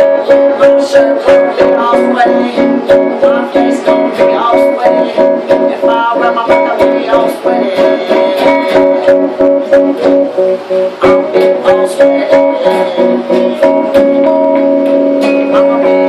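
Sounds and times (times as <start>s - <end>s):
guitar strumming: 0.0s - 16.0s.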